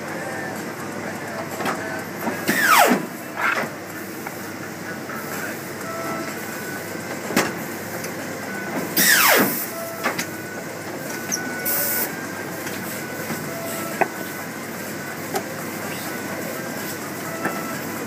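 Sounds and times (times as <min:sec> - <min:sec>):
paper cutter machine hum: 0:00.0 - 0:18.0.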